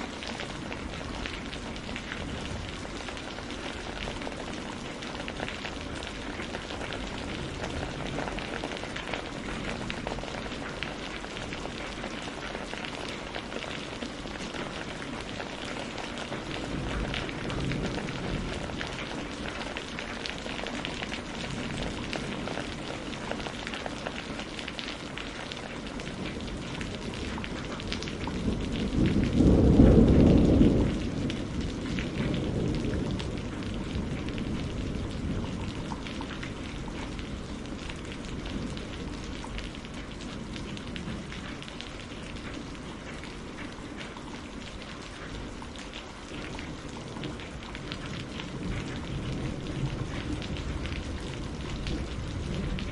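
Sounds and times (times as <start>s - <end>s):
thunder rumbling: 0.0s - 24.4s, 26.2s - 44.2s, 46.3s - 52.9s
rain pattering on roof: 0.0s - 52.9s.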